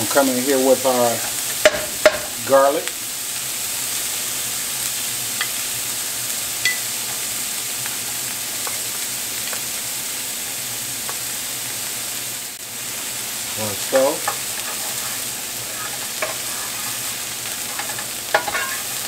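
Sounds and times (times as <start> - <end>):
onions sizzling in a frying pan: 0.0 - 19.0.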